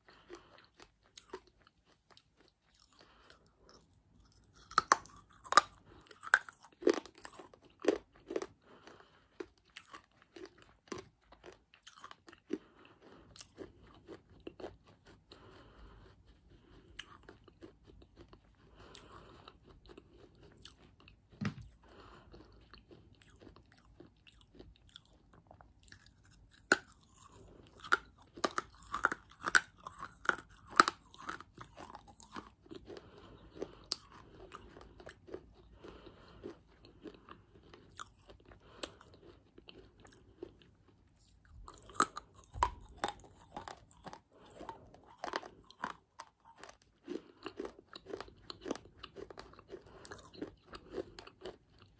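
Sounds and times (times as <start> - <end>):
chewing crunchy clay: 0.0 - 51.9.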